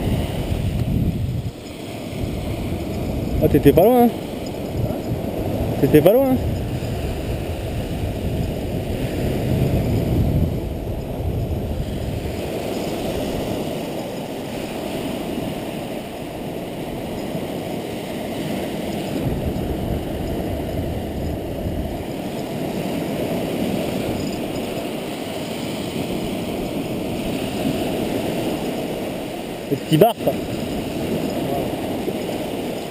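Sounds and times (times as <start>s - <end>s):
surf rushing on beach: 0.0s - 32.9s.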